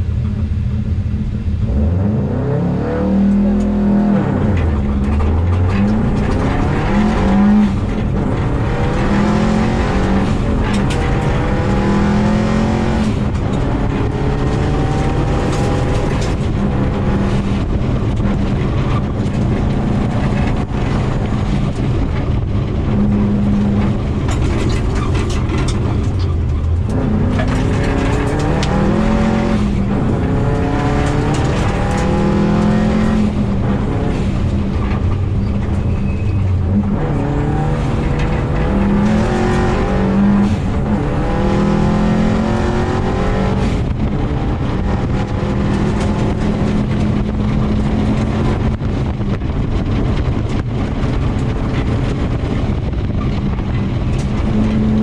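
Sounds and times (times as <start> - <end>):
car engine revving hard: 1.5 - 55.0
gravel rattling under car: 3.3 - 55.0.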